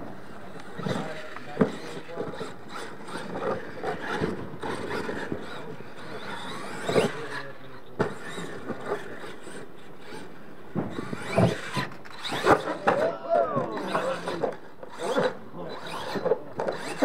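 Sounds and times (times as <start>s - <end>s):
toy truck motor revving: 0.6s - 17.0s.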